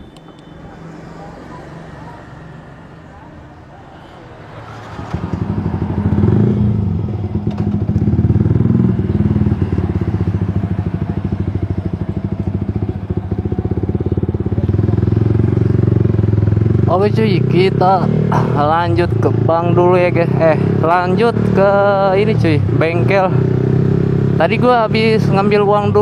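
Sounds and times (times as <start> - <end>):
motorcycle engine running: 0.0 - 25.2.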